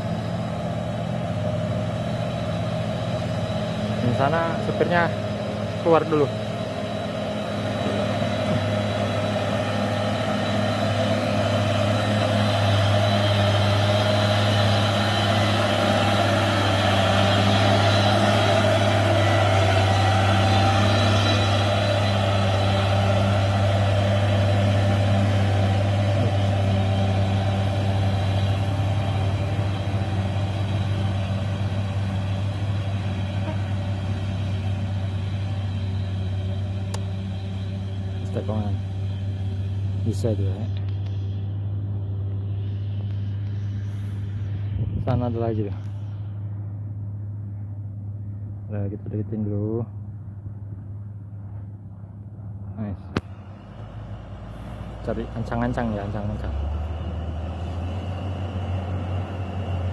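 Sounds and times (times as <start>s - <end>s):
truck diesel engine drone: 0.0s - 59.9s.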